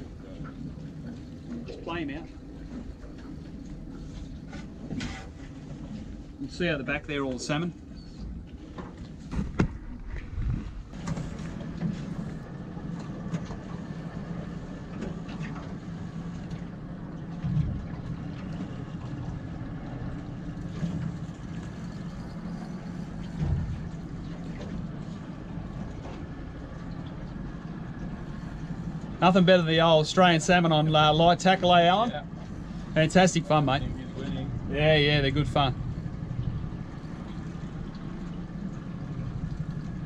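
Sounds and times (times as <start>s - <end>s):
boat engine humming: 0.0s - 40.0s.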